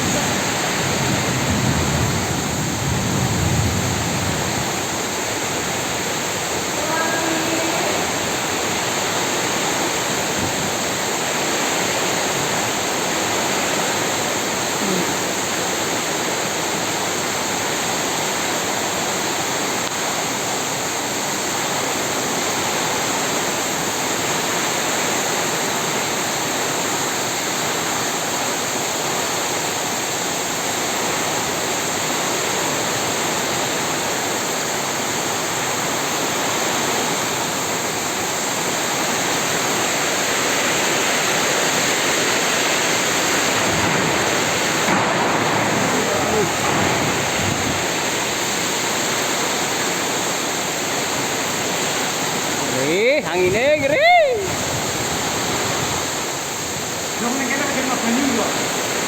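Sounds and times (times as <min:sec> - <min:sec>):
torrential rain pouring: 0:00.0 - 0:59.0.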